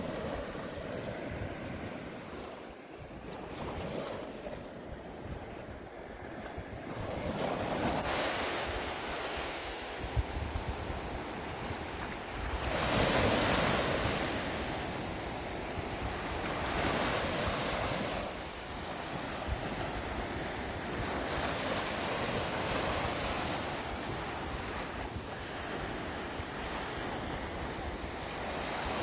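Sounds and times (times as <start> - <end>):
sea waves washing in: 0.0 - 29.0
wind noise on microphone: 0.0 - 29.0.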